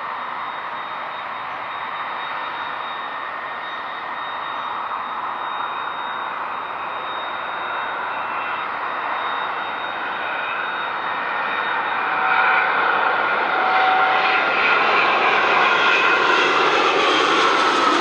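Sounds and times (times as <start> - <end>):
jet engine roar with whine: 0.0 - 18.0.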